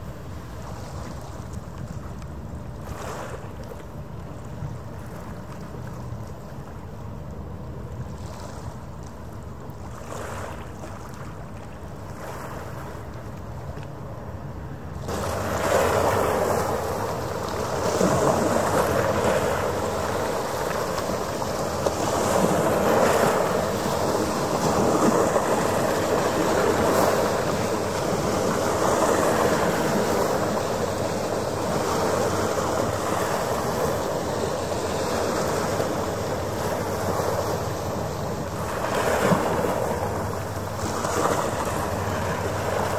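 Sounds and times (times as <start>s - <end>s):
faint ferry engine drone: 0.0s - 42.9s
waves washing against shore: 0.0s - 42.9s.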